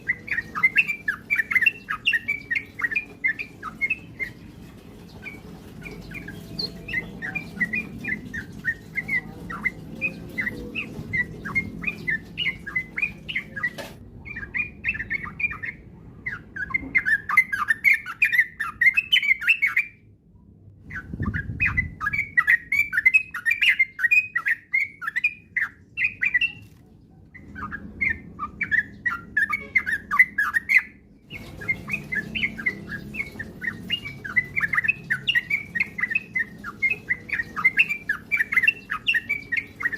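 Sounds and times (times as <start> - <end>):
bulbul chattering song: 0.0 - 20.0, 20.9 - 39.9.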